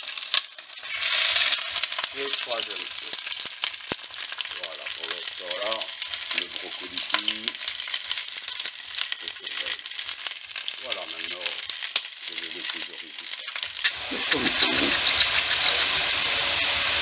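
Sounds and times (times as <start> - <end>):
chicken frying in hot oil: 0.0 - 17.0.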